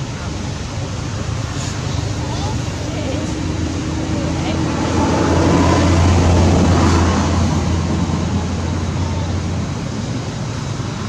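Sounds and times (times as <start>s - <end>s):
engine low hum: 0.0s - 11.0s
steady wash of noise: 0.0s - 11.0s.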